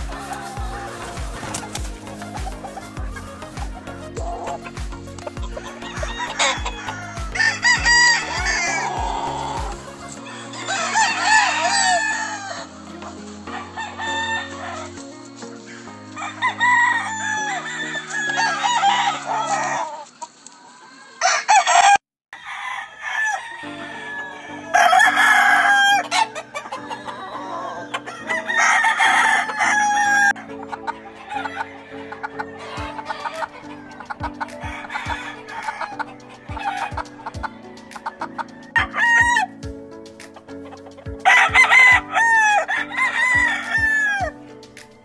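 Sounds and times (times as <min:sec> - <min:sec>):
background music with bass line: 0:00.0 - 0:19.6, 0:24.5 - 0:45.0
chickens crowing and clucking: 0:00.0 - 0:45.0.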